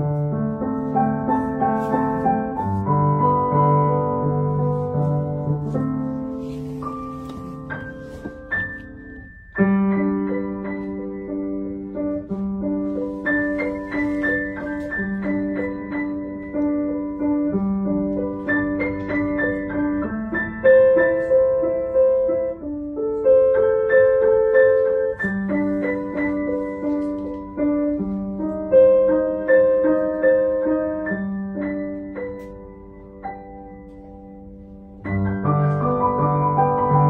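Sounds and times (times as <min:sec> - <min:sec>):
grand piano playing: 0:00.0 - 0:37.0.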